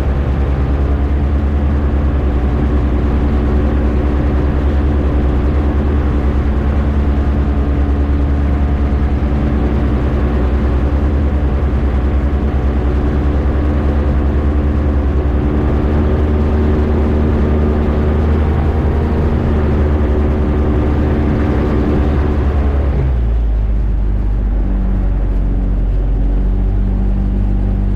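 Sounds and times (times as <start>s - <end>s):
microlight engine droning: 0.0s - 27.9s.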